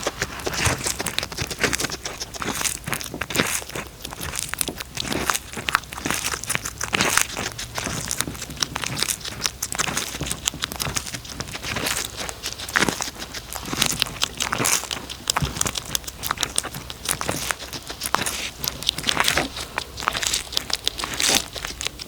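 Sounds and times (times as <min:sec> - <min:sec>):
cat chewing crunchy food: 0:00.0 - 0:22.0.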